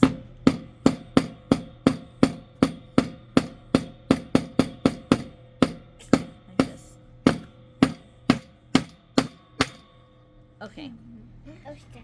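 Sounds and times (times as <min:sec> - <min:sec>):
hammer tapping a nail into wood: 0:00.0 - 0:09.9.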